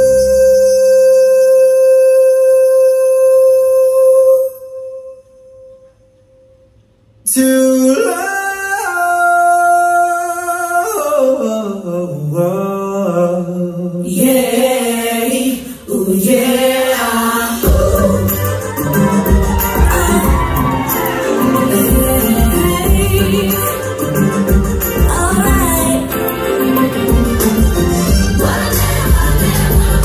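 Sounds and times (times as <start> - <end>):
singing with backing music: 0.0 - 4.9, 7.2 - 30.0.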